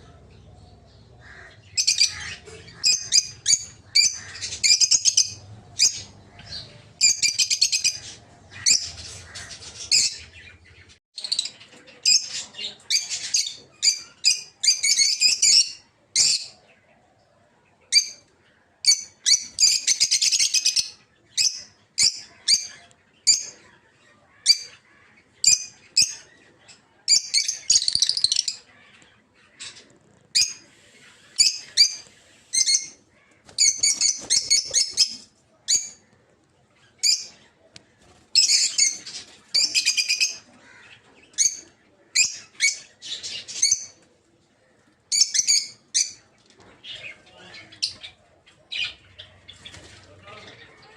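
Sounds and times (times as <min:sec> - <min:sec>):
lovebirds chirping: 0:00.0 - 0:50.9.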